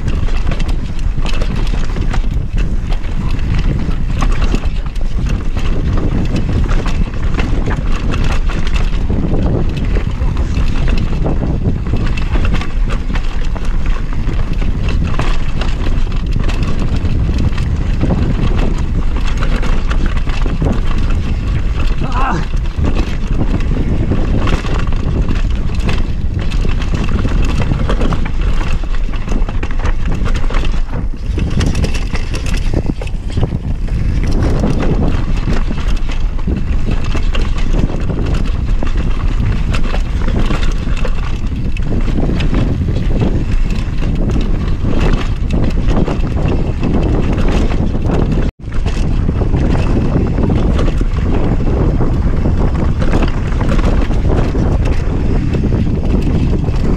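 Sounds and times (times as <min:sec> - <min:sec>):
bike clattering over rough trail: 0:00.0 - 0:56.9
wind on microphone: 0:00.0 - 0:56.9.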